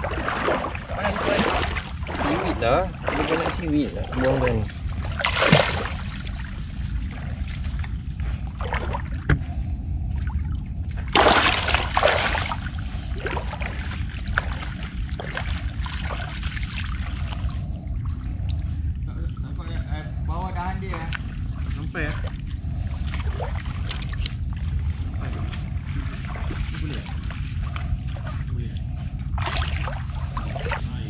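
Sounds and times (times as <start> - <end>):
low rumble: 0.0 - 31.0
water splashing and trickling: 0.0 - 31.0.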